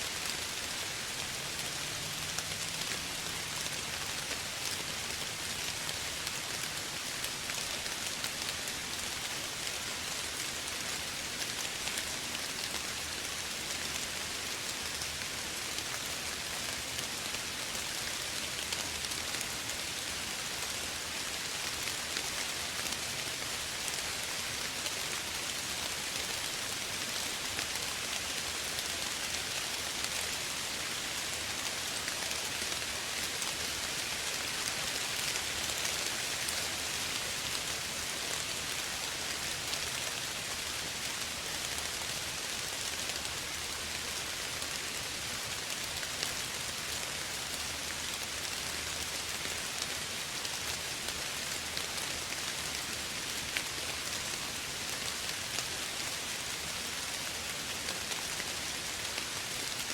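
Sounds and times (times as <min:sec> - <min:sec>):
soft rain pattering: 0:00.0 - 0:59.9.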